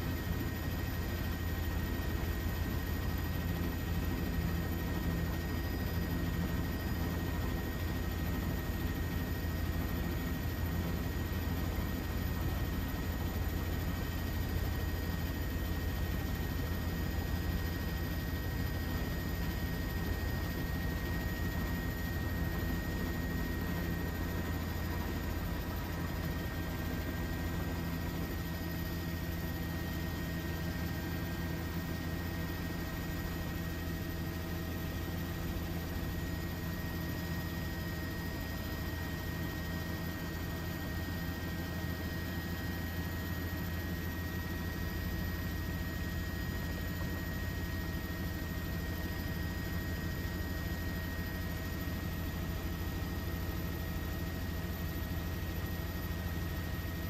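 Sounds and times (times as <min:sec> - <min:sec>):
faint high whine: 0:00.0 - 0:57.0
low drone of aircraft engines: 0:00.0 - 0:57.0.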